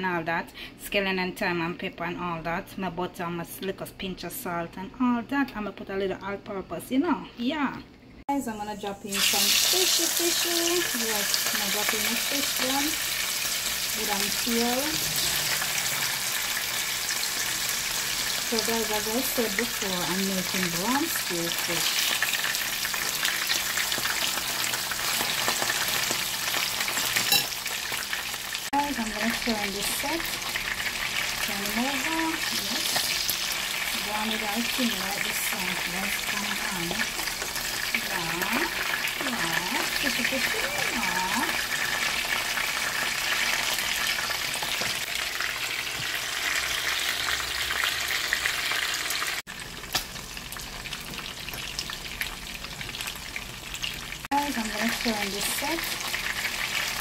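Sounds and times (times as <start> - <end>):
fish sizzling in oil: 8.7 - 57.0.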